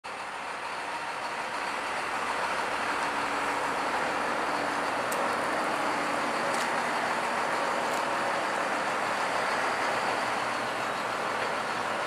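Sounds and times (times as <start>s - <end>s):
rolling noise of trailer: 0.1s - 12.0s
tractor engine running: 0.1s - 12.0s.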